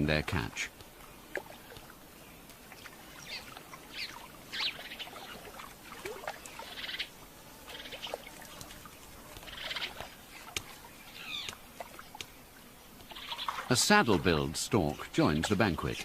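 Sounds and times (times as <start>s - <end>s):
water splashing and sloshing: 0.0s - 16.0s
bird calls: 1.0s - 8.7s, 9.3s - 15.8s.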